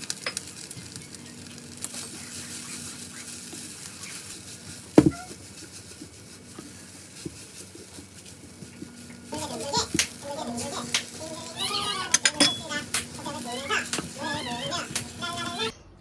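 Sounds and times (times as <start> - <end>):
food sizzling in a pan: 0.0 - 15.7
utensil clicks stirring: 0.0 - 15.7.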